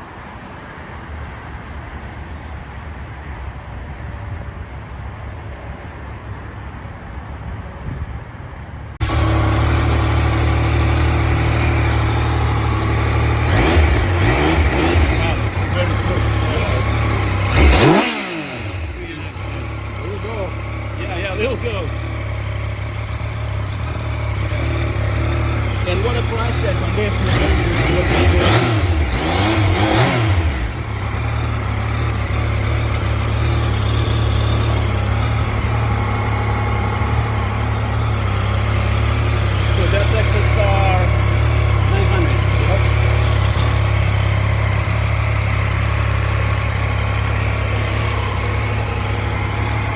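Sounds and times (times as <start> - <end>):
motorcycle engine idling: 9.0 - 49.9.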